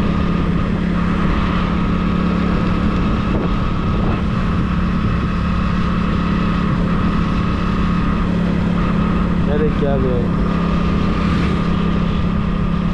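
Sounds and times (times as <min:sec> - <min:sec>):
road and wind rush: 0:00.0 - 0:12.9
vehicle engine droning: 0:00.0 - 0:12.9.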